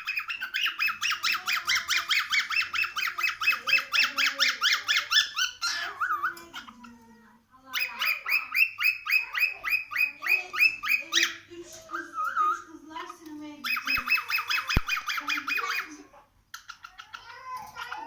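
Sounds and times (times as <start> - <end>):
cockatiel chirping rapidly: 0.0 - 7.0, 7.7 - 18.0.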